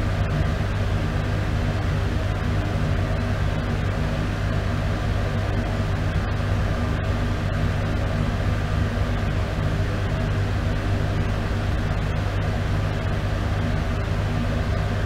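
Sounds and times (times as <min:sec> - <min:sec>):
exhaust fan humming: 0:00.0 - 0:15.0.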